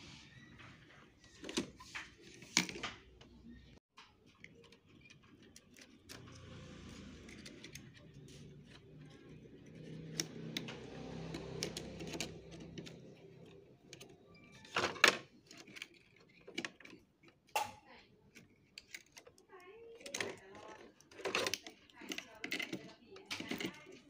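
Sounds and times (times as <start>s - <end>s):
plastic clicks and rattles: 4.0s - 24.0s.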